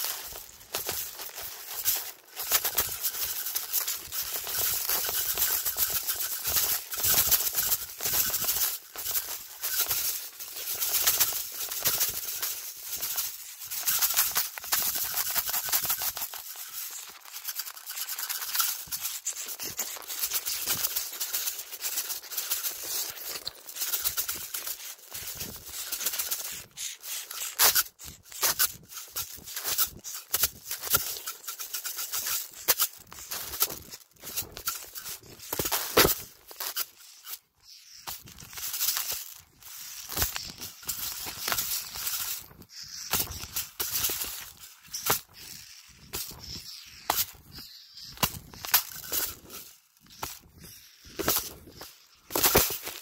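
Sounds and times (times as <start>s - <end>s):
rice rattling in a cup: 0.0s - 53.0s.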